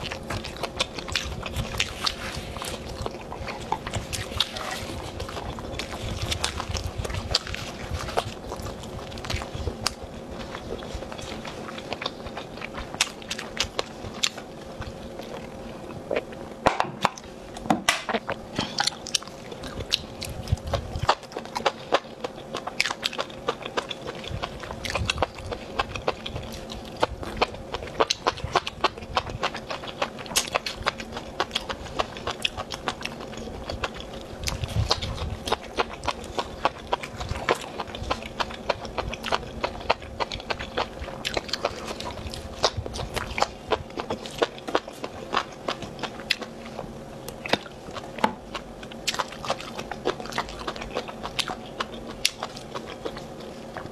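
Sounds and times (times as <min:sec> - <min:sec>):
biting and chewing: 0:00.0 - 0:53.9
faint steady hum: 0:00.0 - 0:53.9.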